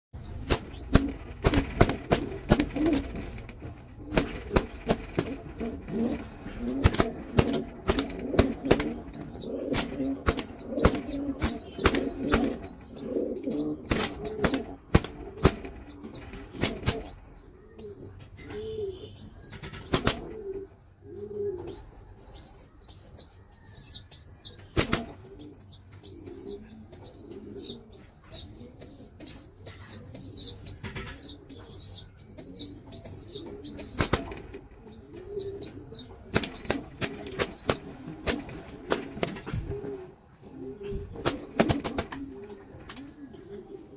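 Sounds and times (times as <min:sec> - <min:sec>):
pigeons cooing: 0:00.2 - 0:43.9.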